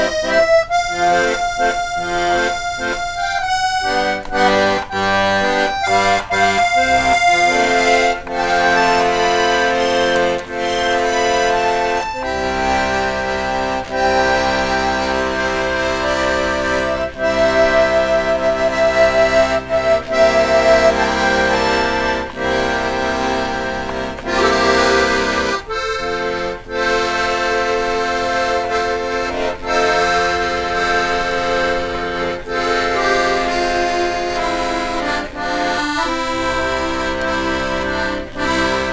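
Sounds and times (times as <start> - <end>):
accordion music: 0.0 - 38.9.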